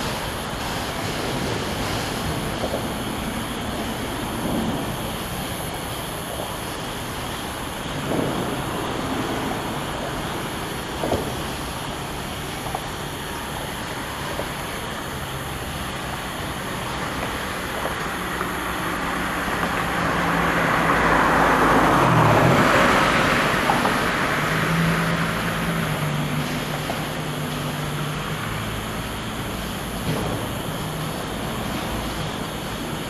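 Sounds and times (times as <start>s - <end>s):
freight cars rumbling on rails: 0.0s - 33.0s.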